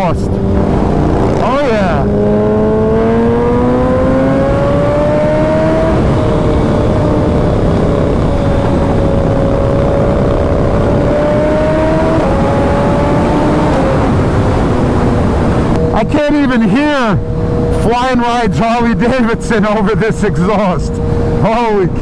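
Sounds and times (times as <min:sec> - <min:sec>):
motorcycle engine at speed: 0:00.0 - 0:22.0
wind noise: 0:00.0 - 0:22.0.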